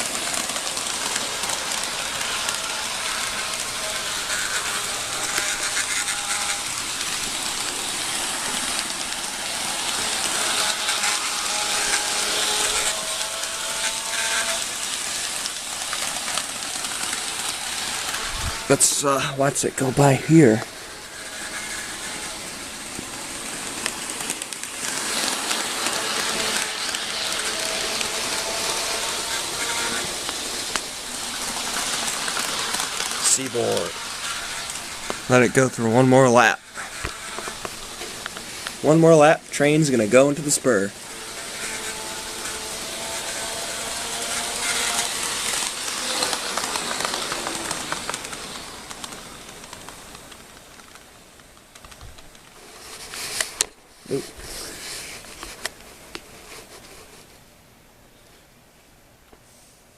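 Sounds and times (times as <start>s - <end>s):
model train rolling hiss: 0.0s - 51.1s, 52.6s - 55.8s
wheels clicking over rail joints: 0.0s - 54.2s.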